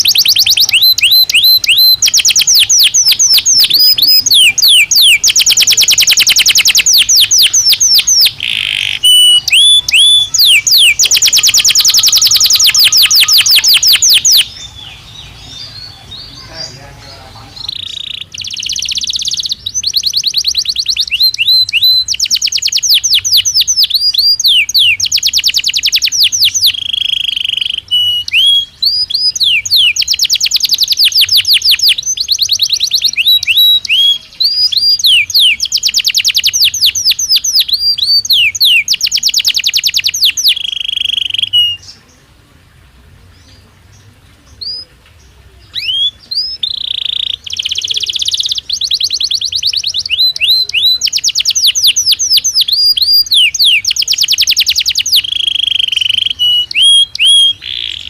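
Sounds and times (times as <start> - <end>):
canary singing trills: 0.0 - 42.4, 43.2 - 58.0.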